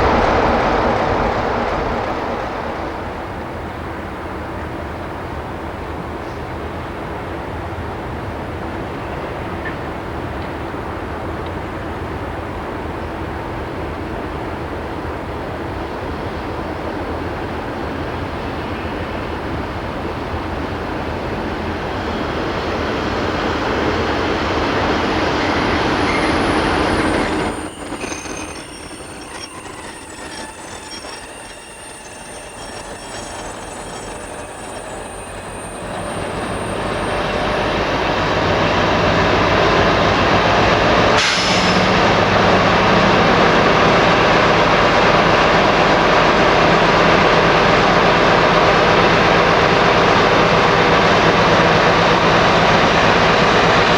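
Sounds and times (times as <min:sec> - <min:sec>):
diesel locomotive engine hum: 0:00.0 - 0:53.9
train wheels squealing on rails: 0:00.0 - 0:53.9.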